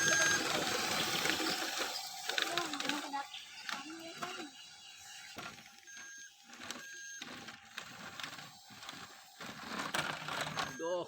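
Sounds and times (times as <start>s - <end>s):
toy motor and gears whirring: 0.0s - 11.0s.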